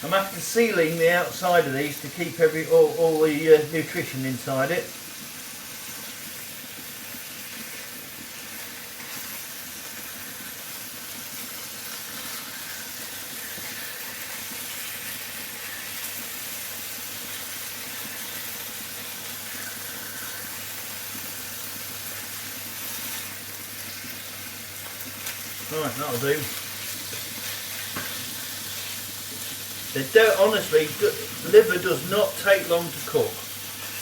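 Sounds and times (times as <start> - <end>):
liver sizzling in frying pan: 0.0 - 34.0.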